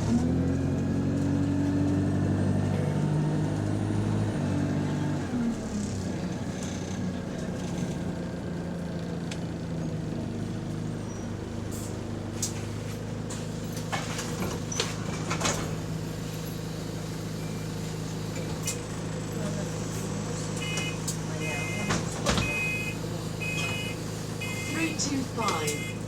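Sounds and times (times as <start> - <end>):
bus engine running: 0.0 - 26.0.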